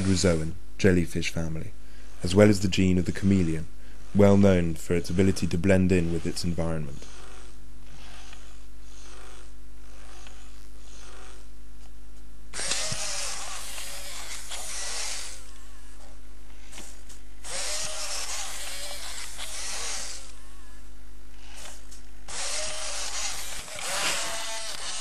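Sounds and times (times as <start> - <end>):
robot leg motors whirring: 0.0 - 0.5, 1.4 - 11.9, 12.5 - 25.0
steady low hum: 0.0 - 25.0.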